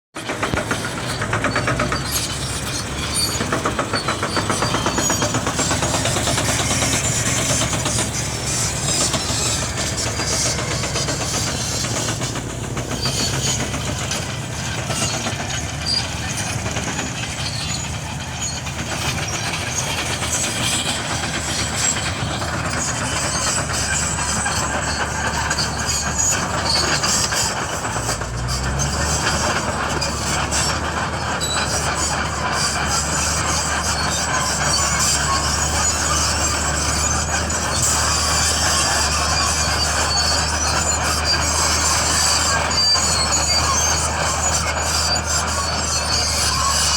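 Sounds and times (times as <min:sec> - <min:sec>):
bulldozer diesel engine rattling: 0:00.1 - 0:46.9.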